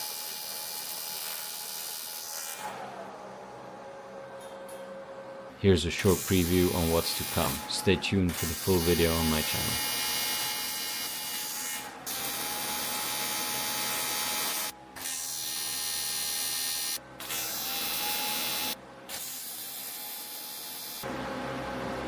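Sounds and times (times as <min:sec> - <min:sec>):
welding arc buzzing: 0:00.0 - 0:02.7, 0:05.9 - 0:21.1.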